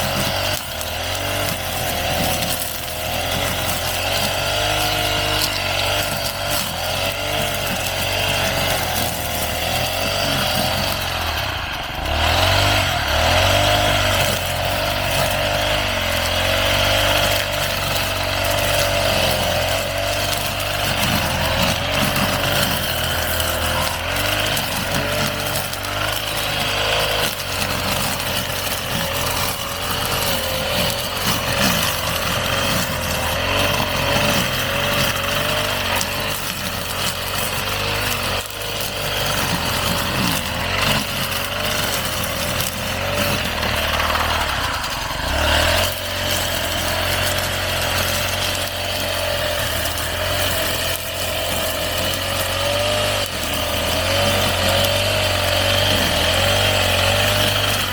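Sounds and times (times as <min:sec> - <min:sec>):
brush cutter cutting grass: 0:00.0 - 0:57.9.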